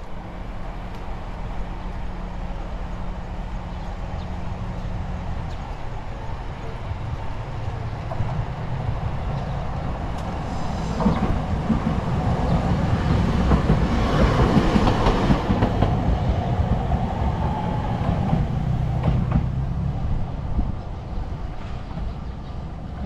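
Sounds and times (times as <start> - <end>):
faint tram whine: 0.0 - 23.0
tram wheels on rails: 0.0 - 23.0.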